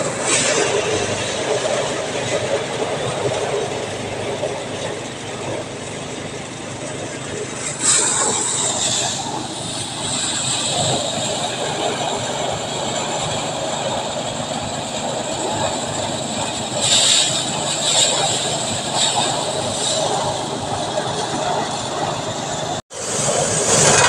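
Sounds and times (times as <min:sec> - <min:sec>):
threshing machine engine running: 0:00.0 - 0:24.0.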